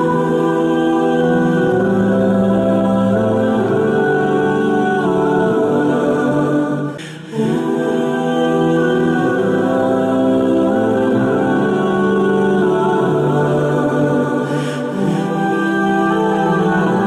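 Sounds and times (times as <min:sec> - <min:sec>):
a cappella voices singing: 0:00.0 - 0:17.0.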